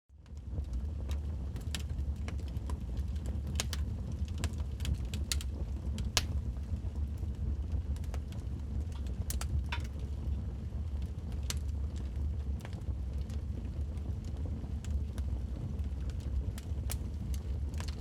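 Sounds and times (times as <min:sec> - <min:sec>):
wood fire crackling: 0:00.2 - 0:18.0.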